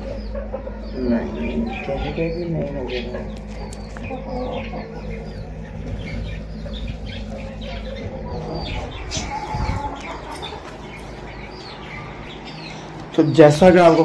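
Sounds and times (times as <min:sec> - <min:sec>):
low steady hum: 0:00.0 - 0:14.0
poultry chirping and clucking: 0:00.0 - 0:14.0.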